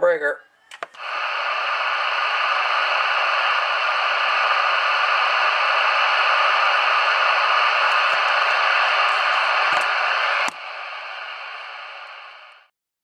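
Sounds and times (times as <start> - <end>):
radio static hiss: 0.8 - 12.7.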